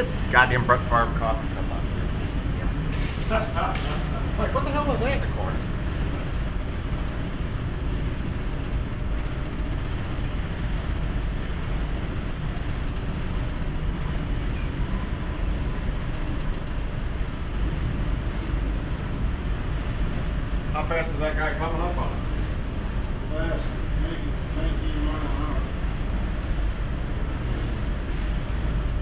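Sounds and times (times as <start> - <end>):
low ship rumble: 0.0 - 29.0
rushing wind: 0.0 - 29.0.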